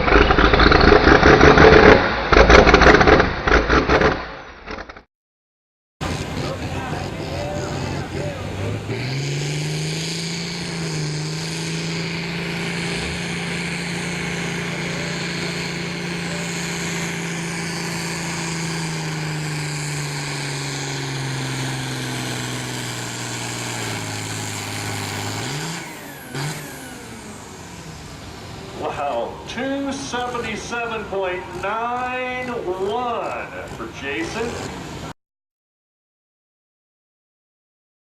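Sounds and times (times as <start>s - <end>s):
engine revving: 0.0s - 5.0s, 6.0s - 35.2s
tractor engine under heavy load: 0.0s - 5.0s, 6.0s - 35.2s.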